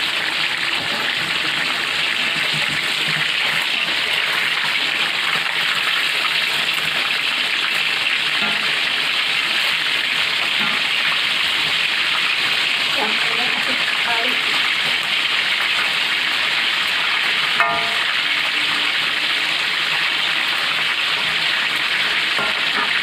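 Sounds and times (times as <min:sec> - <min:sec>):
stir-fry bubbling and sizzling: 0:00.0 - 0:23.0.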